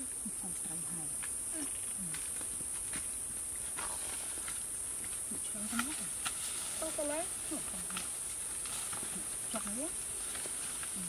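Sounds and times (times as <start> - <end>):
people moving through undergrowth: 0.0 - 11.0.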